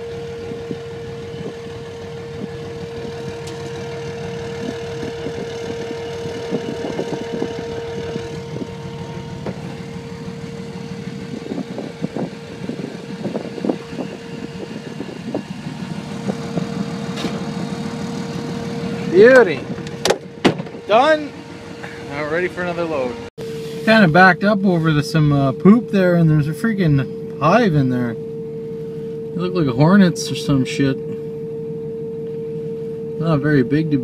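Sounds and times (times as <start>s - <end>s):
higher tone: 0.0s - 34.0s
hydraulic whine: 0.0s - 34.0s
vehicle engine idling: 0.0s - 34.0s.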